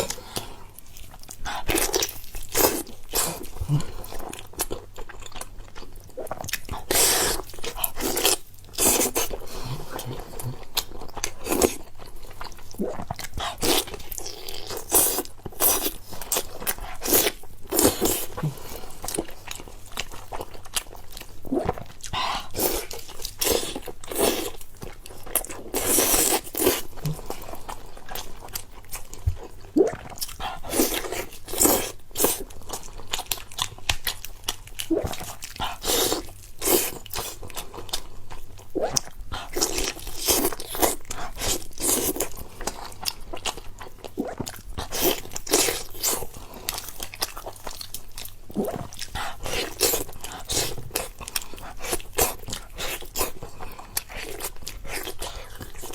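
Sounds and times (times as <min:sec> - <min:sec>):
person crunching and chewing: 0:00.0 - 0:55.9.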